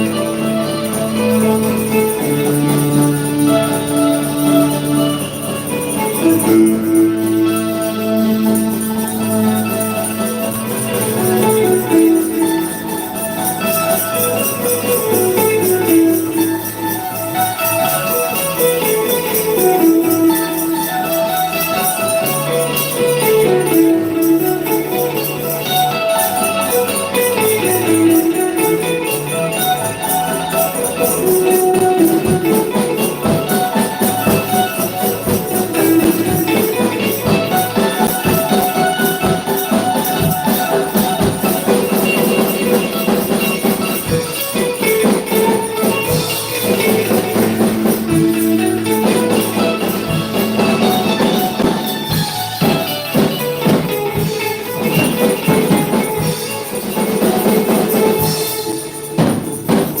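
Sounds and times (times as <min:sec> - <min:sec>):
percussion: 0:00.0 - 1:00.0
worship band playing: 0:00.0 - 1:00.0.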